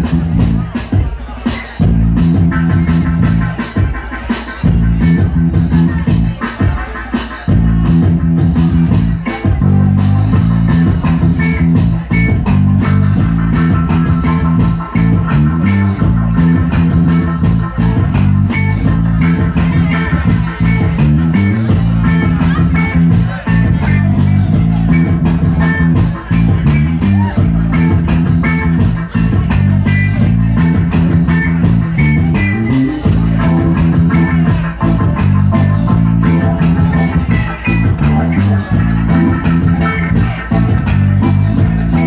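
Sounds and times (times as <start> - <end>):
band music with guitar: 0.0 - 42.0
bass guitar line: 0.0 - 42.0.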